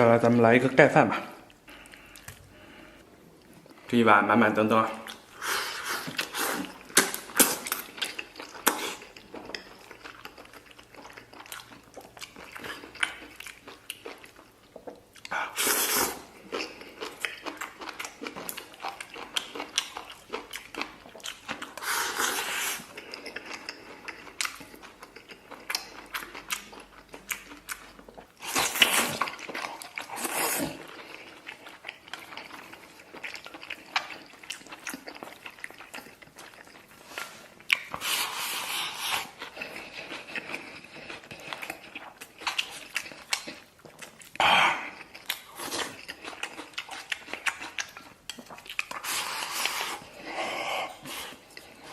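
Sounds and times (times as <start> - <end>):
person chewing: 1.4 - 3.9, 4.9 - 51.9.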